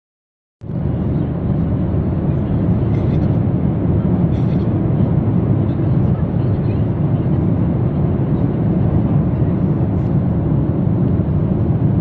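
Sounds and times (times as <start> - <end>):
airliner engines and airflow rumble: 0.6 - 12.0.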